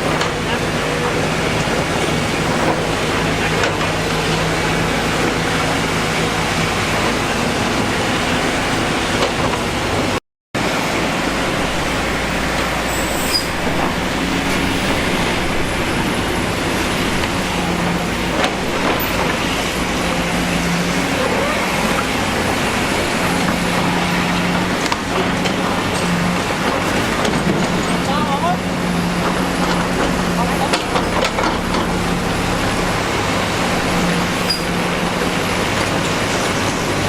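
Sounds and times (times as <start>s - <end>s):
diesel machinery engine rumbling: 0.0s - 37.0s.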